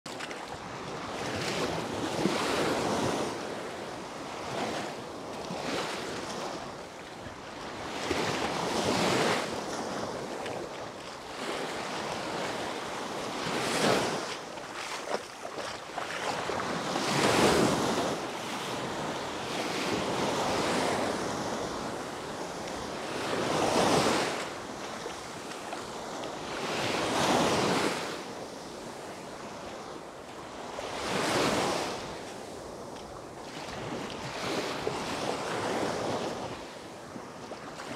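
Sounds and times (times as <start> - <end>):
waves breaking on sandy shore: 0.1 - 37.9.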